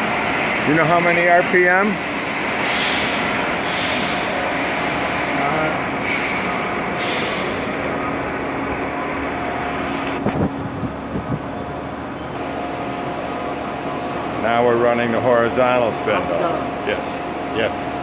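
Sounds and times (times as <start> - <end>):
milling machine whirring: 0.0 - 18.0.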